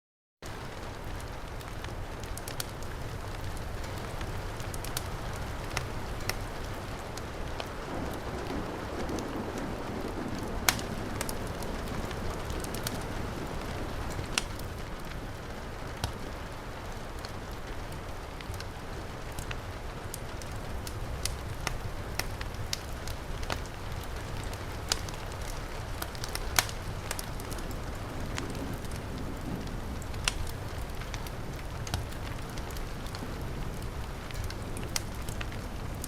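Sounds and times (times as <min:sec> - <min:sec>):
heavy rain pouring: 0:00.4 - 0:36.0
wood fire crackling: 0:00.4 - 0:36.0.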